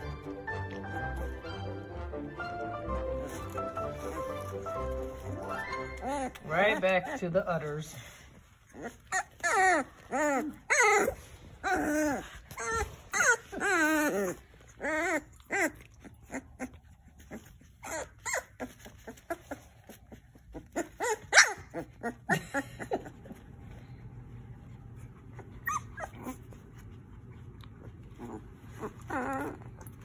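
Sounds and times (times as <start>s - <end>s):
puppies whimpering and crying: 0.0s - 30.0s.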